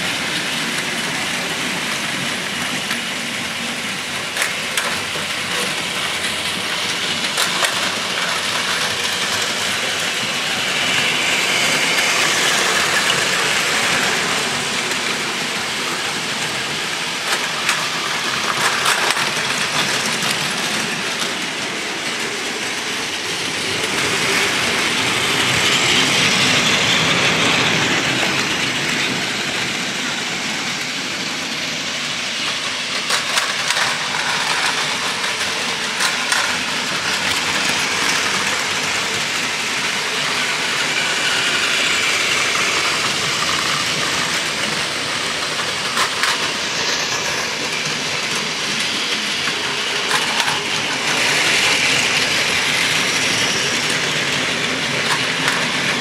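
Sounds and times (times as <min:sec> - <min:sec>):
wheels rattling over plastic track: 0:00.0 - 0:29.7, 0:31.9 - 0:56.0
toy train motors whirring: 0:00.0 - 0:56.0.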